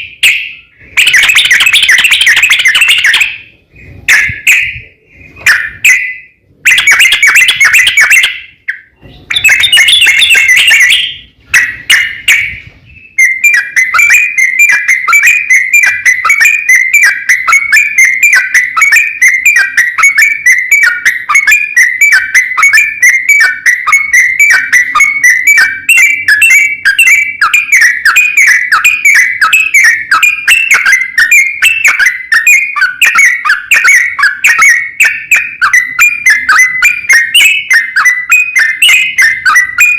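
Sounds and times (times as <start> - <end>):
bulbul song: 0.0 - 39.9.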